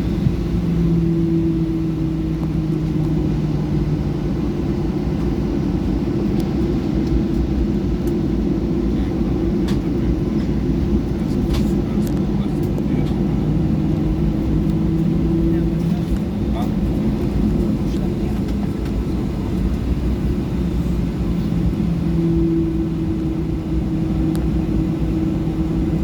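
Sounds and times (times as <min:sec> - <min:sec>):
jet engine rumble in cabin: 0:00.0 - 0:26.0
steady hum tones: 0:00.0 - 0:26.0.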